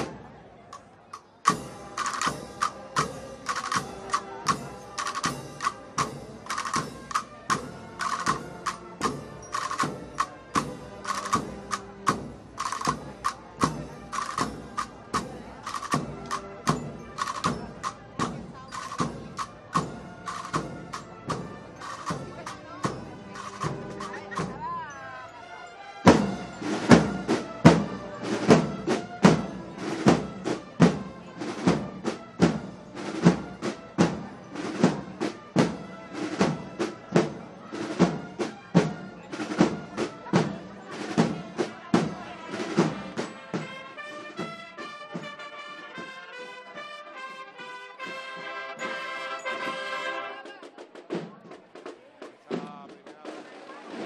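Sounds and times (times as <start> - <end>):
drums striking a steady beat: 0.0 - 25.0, 26.0 - 46.4, 47.5 - 54.0
brass band playing a march: 0.0 - 51.9.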